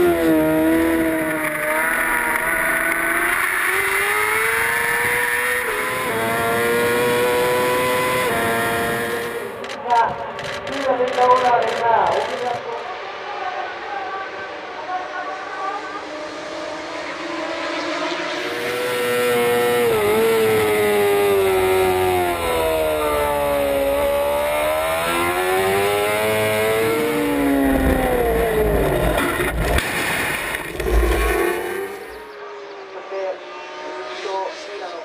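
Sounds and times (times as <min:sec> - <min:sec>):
racing motorcycle engines: 0:00.0 - 0:35.0.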